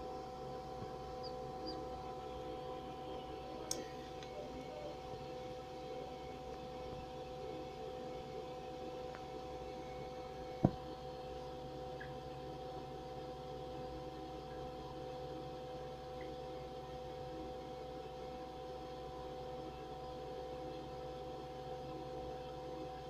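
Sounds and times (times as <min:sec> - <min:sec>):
incubator electrical hum: 0:00.0 - 0:23.0.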